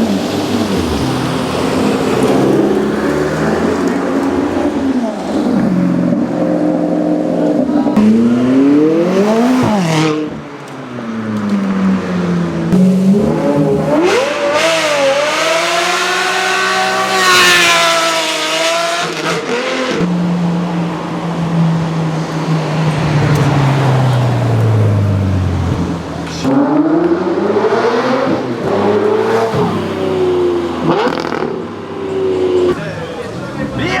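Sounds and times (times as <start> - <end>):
sports car engine revving: 0.0 - 10.5, 11.1 - 21.1, 21.8 - 34.0.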